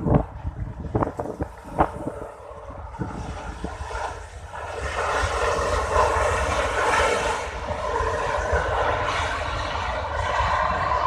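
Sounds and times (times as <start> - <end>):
jet engine rushing: 0.0 - 11.0
wind rumble on microphone: 0.0 - 11.0.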